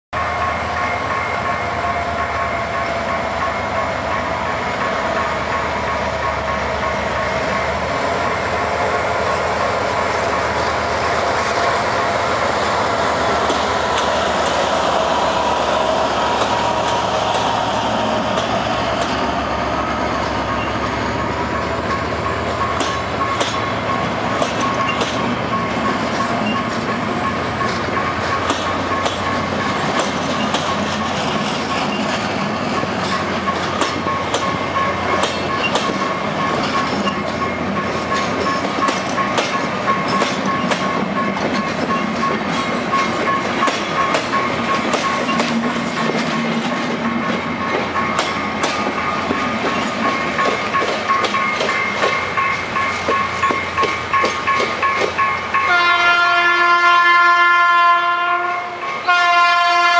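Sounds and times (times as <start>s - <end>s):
locomotive engine whine: 0.2s - 59.9s.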